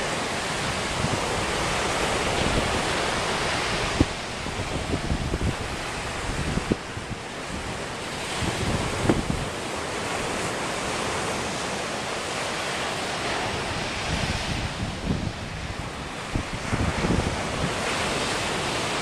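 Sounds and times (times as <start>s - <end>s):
wind buffeting microphone: 0.0s - 11.6s, 12.3s - 19.0s
surf breaking on beach: 0.0s - 19.0s.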